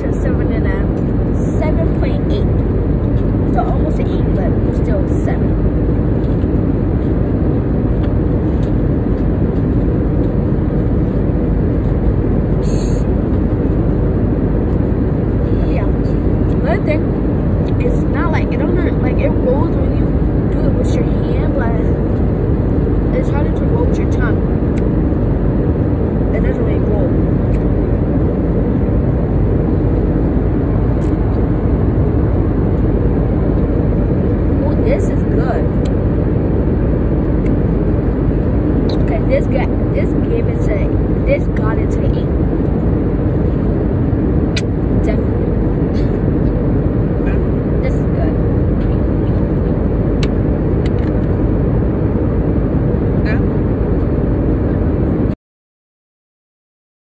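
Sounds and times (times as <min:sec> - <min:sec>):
airliner cabin noise: 0:00.0 - 0:55.4.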